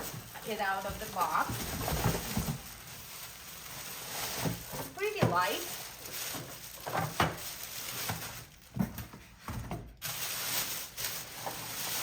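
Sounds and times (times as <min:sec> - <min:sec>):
cardboard and packing rustling: 0:00.0 - 0:12.0.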